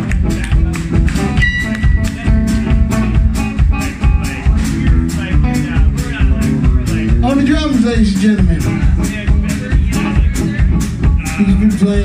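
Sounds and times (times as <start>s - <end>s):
drum kit beat: 0.0s - 12.0s
electric bass: 0.0s - 12.0s
guitar: 0.0s - 12.0s.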